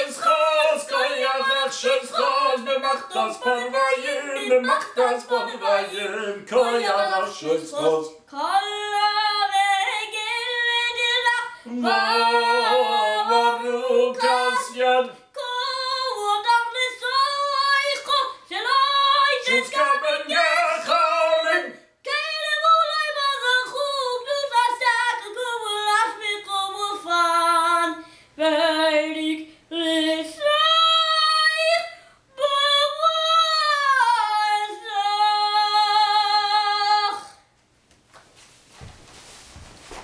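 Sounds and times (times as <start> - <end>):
boy singing a cantorial chant: 0.0 - 37.4.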